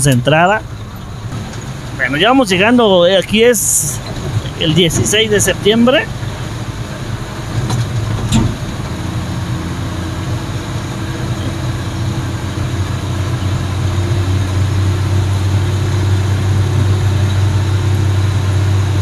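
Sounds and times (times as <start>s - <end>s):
truck engine low drone: 0.0s - 19.0s.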